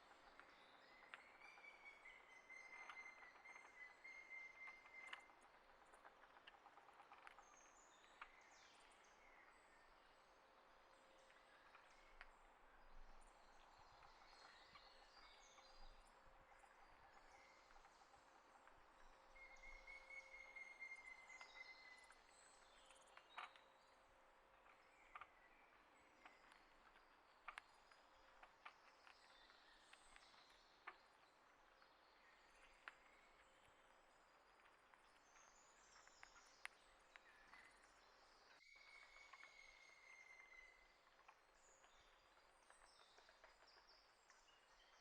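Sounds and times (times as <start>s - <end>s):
wild birds chirping: 0.0s - 45.0s.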